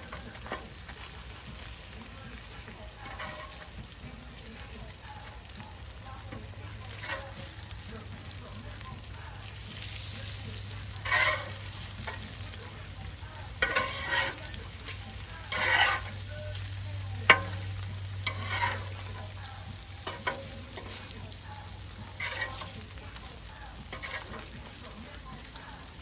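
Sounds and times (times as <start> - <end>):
burger patties sizzling: 0.0 - 26.0
spatula scraping: 0.0 - 26.0.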